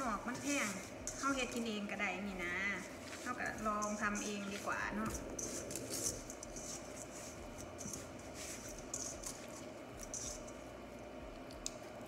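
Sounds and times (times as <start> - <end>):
hand rubbing salt into fish: 0.0 - 10.6.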